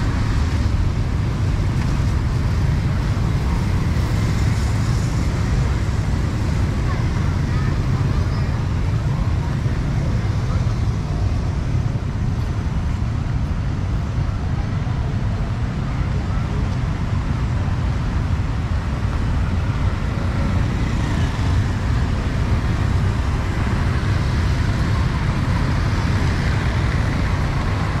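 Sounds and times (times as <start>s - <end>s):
road traffic driving past: 0.0s - 28.0s.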